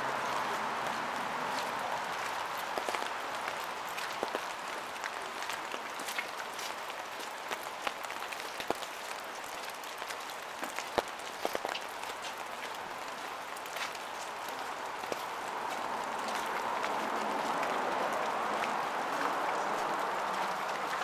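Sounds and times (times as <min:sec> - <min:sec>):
raindrops ticking: 0:00.0 - 0:21.0
rushing stream: 0:00.0 - 0:21.0
steady rain: 0:00.0 - 0:21.0.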